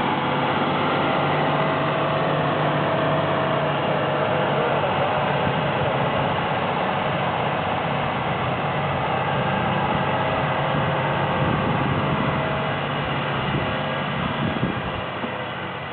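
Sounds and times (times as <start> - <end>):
truck engine running: 0.0 - 15.9.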